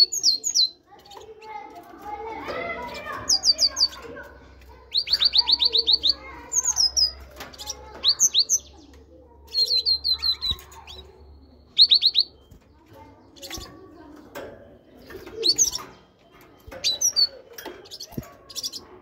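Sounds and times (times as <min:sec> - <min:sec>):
great tit singing: 0:00.0 - 0:19.0.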